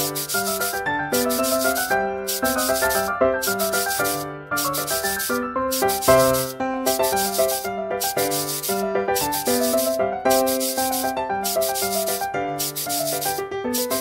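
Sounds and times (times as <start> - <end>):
marker scratching on paper: 0.0 - 14.0
piano music: 0.0 - 14.0.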